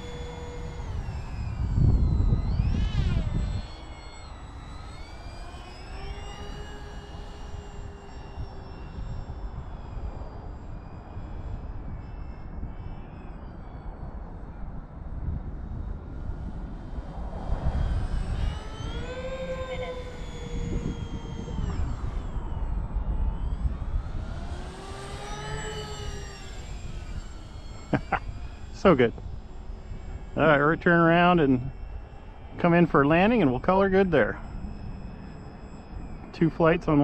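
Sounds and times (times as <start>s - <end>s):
model plane propellers humming: 0.0s - 37.0s.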